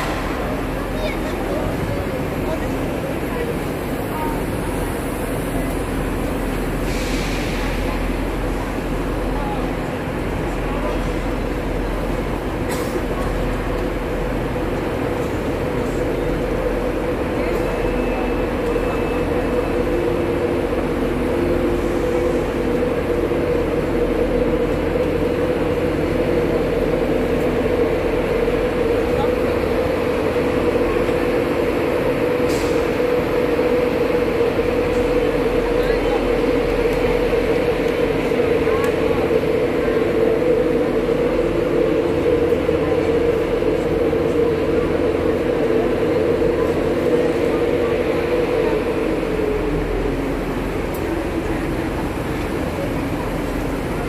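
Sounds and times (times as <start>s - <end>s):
train engine idling: 0.0s - 54.0s.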